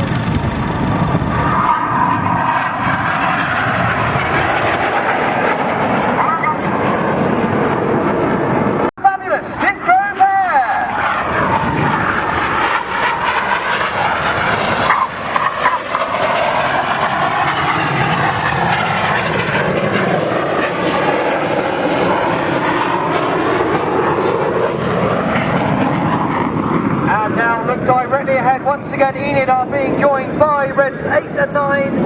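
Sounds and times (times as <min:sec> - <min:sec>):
jet aircraft flying past: 0:00.0 - 0:29.1.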